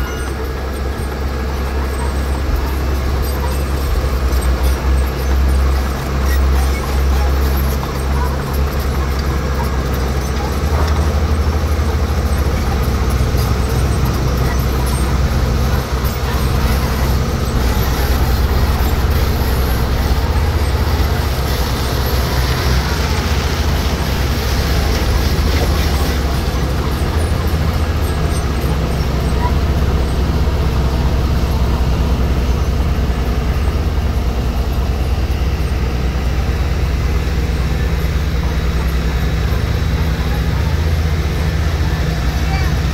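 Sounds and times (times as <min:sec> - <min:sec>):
heavy machinery diesel engine rumbling: 0:00.0 - 0:42.9.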